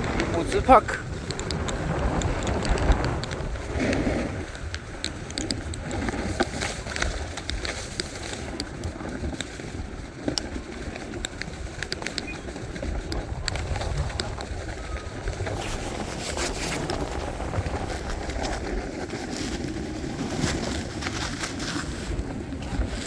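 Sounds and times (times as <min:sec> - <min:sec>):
snowboard sliding over snow: 0:00.0 - 0:23.0
wind rumbling on microphone: 0:00.0 - 0:23.0.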